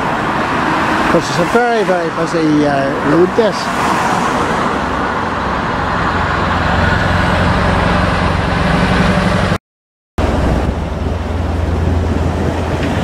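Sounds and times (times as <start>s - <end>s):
road traffic passing: 0.0s - 9.6s, 10.2s - 13.0s.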